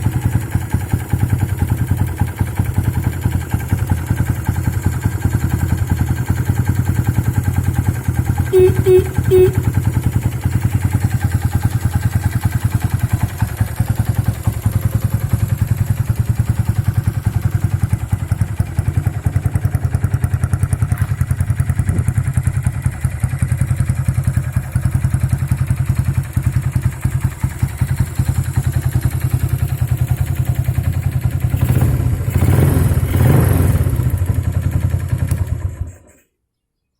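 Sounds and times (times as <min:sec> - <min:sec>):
motorcycle engine idling: 0:00.0 - 0:36.1.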